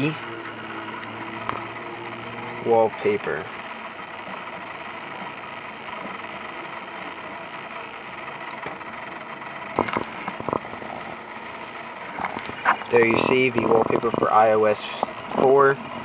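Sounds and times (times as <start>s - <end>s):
background hum and hiss: 0.0s - 16.0s.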